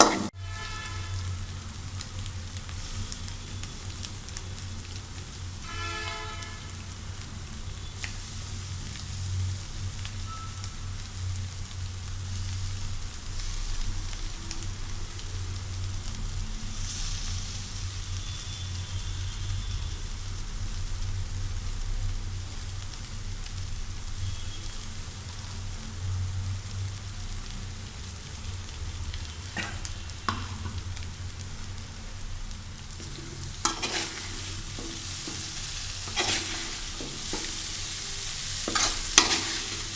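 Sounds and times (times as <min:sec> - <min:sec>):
noodles sizzling in a pan: 0:00.0 - 0:39.9.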